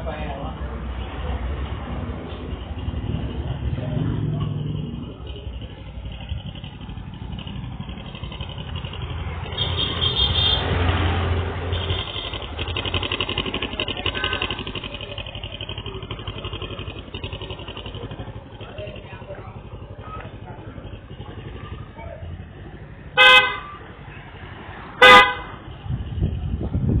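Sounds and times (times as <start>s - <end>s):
motorcycle engine revving: 0.4s - 27.0s.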